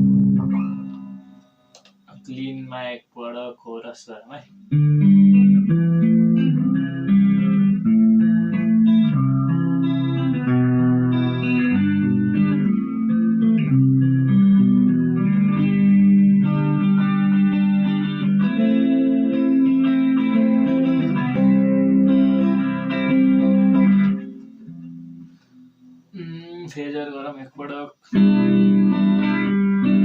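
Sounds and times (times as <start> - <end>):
clean electric guitar with chorus: 0.0 - 1.8, 4.4 - 26.8, 28.1 - 30.0.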